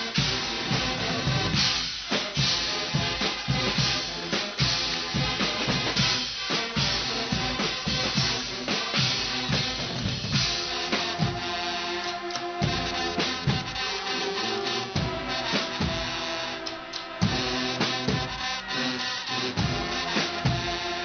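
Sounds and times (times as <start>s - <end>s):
bass and snare drums pounding: 0.0s - 21.0s
brass playing loud chords: 0.0s - 21.0s.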